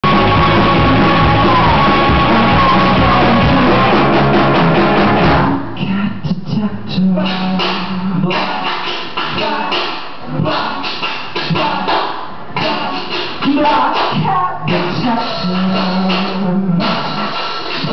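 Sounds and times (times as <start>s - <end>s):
loud rock music with vocals: 0.0s - 17.9s.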